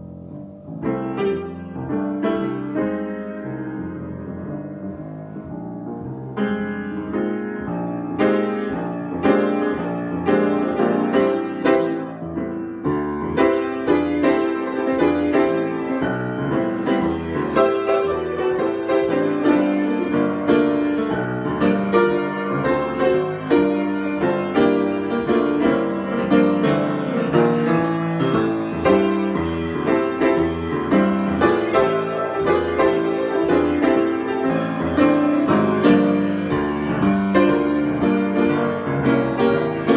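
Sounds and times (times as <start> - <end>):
solo piano: 0.0 - 39.9.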